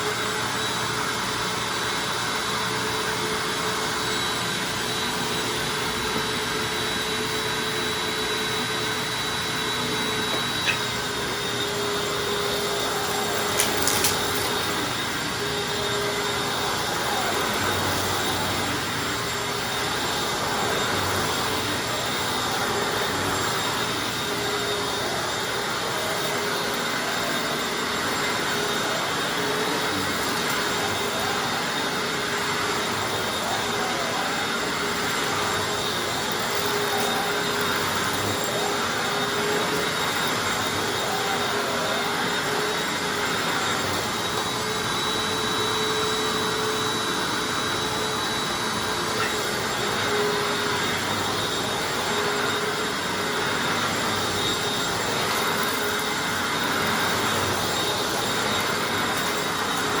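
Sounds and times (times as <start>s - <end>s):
upright vacuum cleaner running: 0.0s - 60.0s.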